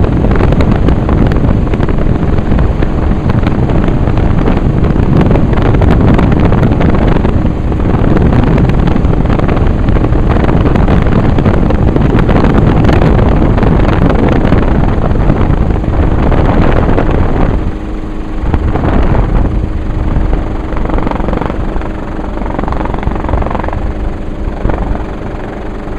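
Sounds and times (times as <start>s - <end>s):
loud engine noise: 0.0s - 25.9s
wind buffeting microphone: 0.0s - 25.9s.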